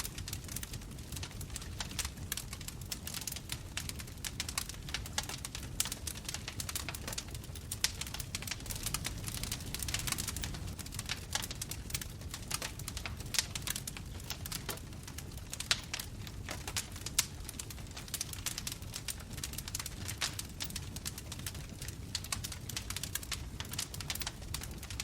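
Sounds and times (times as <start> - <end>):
low rumble of flames: 0.0 - 25.0
wood crackling and popping: 0.0 - 25.0.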